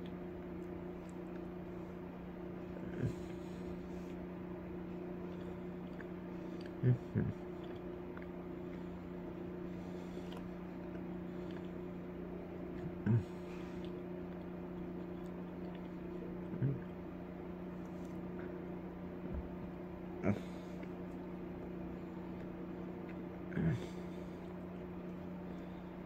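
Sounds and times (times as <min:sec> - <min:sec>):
low room hum: 0:00.0 - 0:26.0
soft mouth noises eating: 0:00.0 - 0:26.0.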